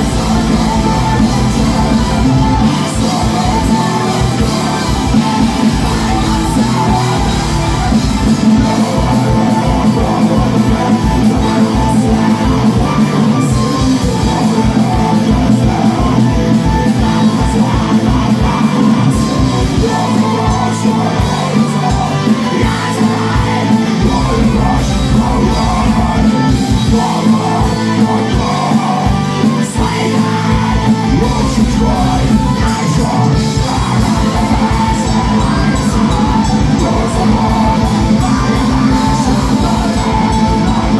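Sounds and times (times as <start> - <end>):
live metal band playing: 0.0 - 40.9
shouted and sung vocals: 0.0 - 40.9.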